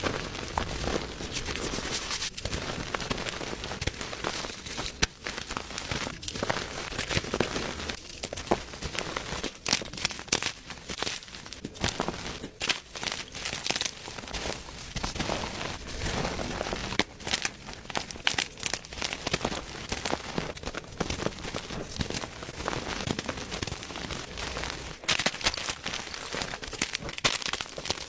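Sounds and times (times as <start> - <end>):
chalk crunching and snapping: 0.0 - 28.0.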